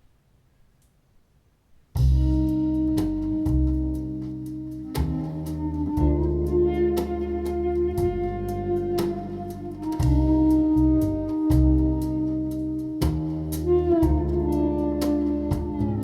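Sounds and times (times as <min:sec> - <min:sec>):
instrumental music through speakers: 0:02.0 - 0:16.0.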